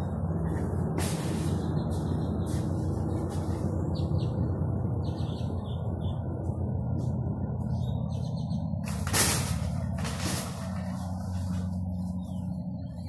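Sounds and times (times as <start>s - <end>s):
vehicle traffic rumble: 0.0s - 13.0s.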